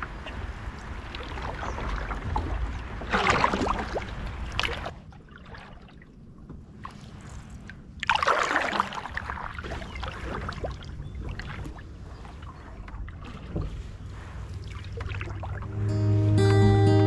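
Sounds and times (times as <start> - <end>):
paddle splashing into water: 0.1 - 6.0, 8.0 - 16.4.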